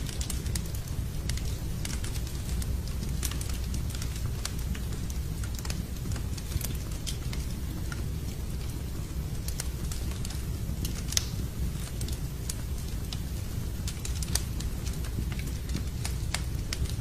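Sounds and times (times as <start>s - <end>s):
low rush of fire: 0.0s - 17.0s
wood fire crackling: 0.0s - 17.0s.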